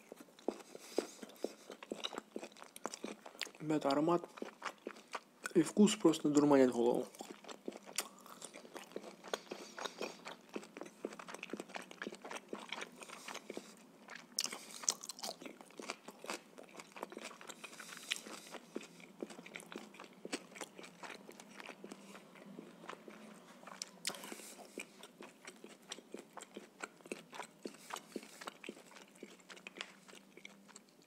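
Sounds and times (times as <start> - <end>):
chewing meat: 0.0 - 31.0.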